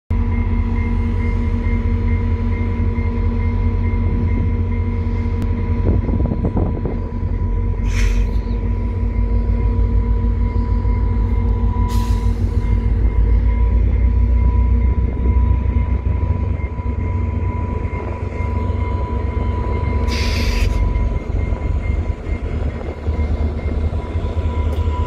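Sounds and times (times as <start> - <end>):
diesel locomotive rumbling: 0.1 - 25.0.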